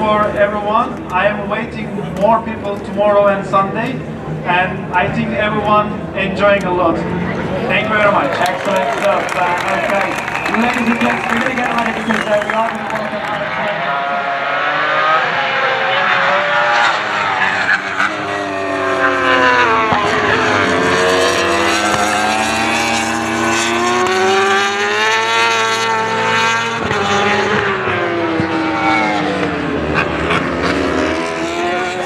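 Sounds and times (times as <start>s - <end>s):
racing motorcycle engines revving: 0.0s - 32.0s.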